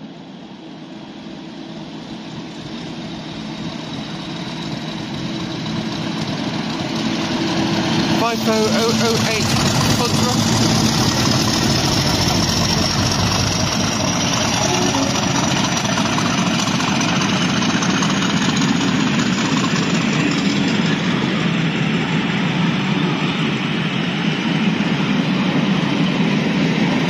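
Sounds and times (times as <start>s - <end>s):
diesel locomotive: 0.0s - 27.0s
train rumbling on rails: 0.0s - 27.0s.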